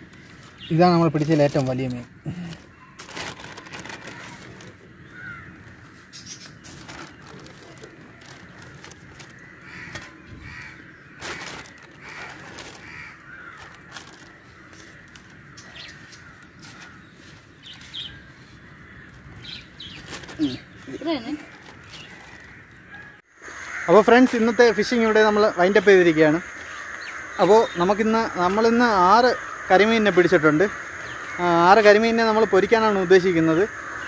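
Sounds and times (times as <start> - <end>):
crows cawing: 0.0 - 34.0
steady outdoor hiss: 0.0 - 34.0.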